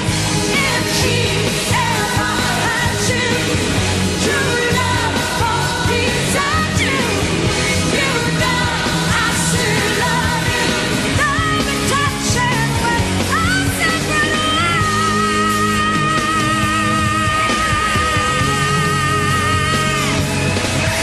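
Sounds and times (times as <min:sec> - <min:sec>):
live band playing: 0:00.0 - 0:21.0
woman singing: 0:00.5 - 0:03.6, 0:04.2 - 0:20.2.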